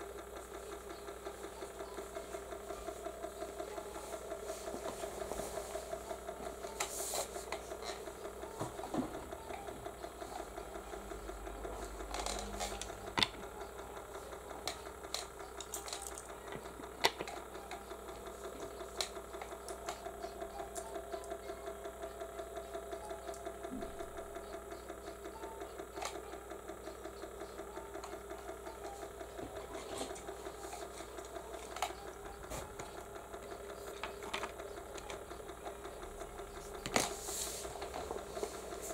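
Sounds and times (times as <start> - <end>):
small electric motor humming: 0.0 - 38.9.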